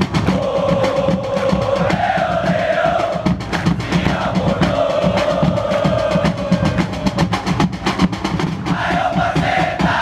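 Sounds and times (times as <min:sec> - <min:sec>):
drums beating a steady rhythm: 0:00.0 - 0:10.0.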